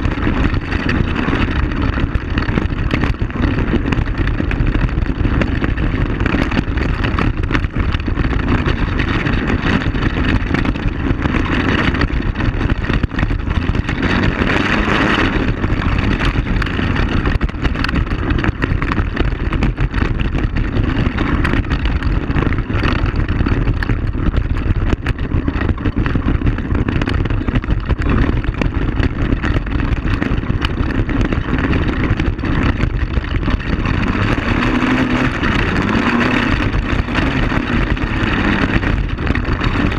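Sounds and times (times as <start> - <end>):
knocks and rattles from bumps: 0.0 - 39.9
quad bike engine running: 0.0 - 39.9.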